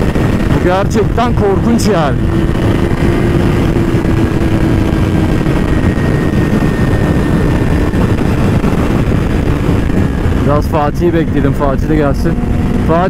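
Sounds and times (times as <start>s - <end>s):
heavy wind rush: 0.0s - 13.0s
motorcycle engine cruising: 0.0s - 13.0s.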